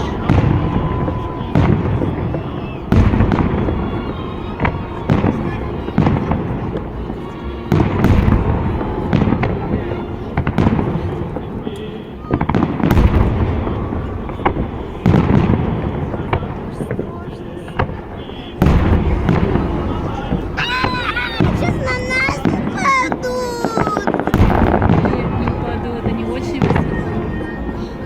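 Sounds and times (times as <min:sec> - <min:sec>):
fireworks booming: 0:00.0 - 0:27.9
fireworks crackling: 0:00.0 - 0:28.0.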